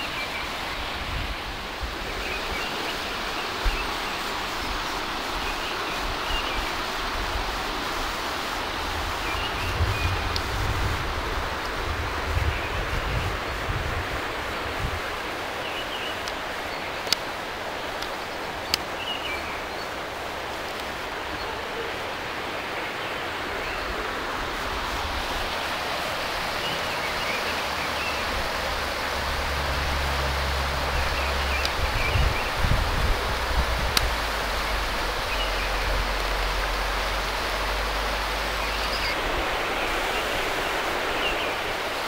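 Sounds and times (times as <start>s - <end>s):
river rushing over stones: 0.0s - 42.0s.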